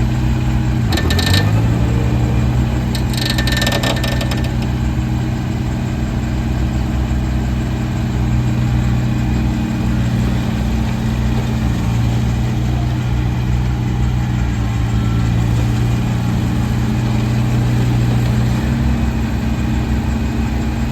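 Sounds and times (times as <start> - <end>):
diesel tractor engine idling: 0.0 - 20.9.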